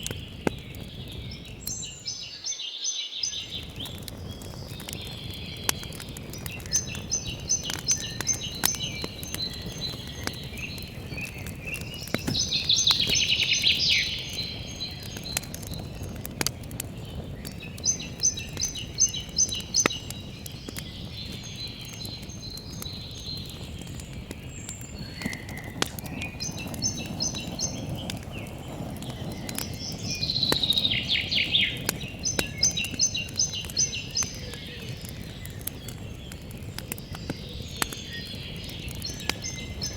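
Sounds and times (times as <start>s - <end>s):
campfire crackling: 0.0s - 39.9s
songbirds singing: 0.0s - 39.9s.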